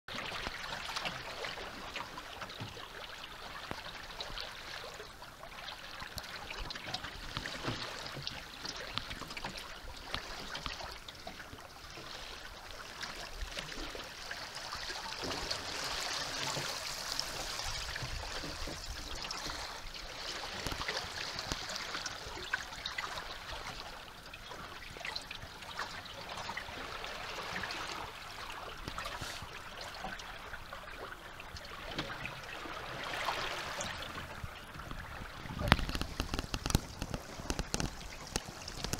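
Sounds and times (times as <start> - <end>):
water splashing along hull: 0.1 - 38.9.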